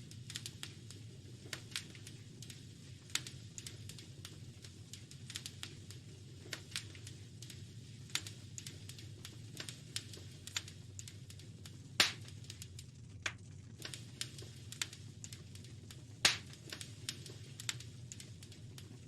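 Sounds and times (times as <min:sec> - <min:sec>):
low fire rumble: 0:00.0 - 0:19.0
wood fire crackling: 0:00.0 - 0:19.0
loud fire pops: 0:00.1 - 0:19.0.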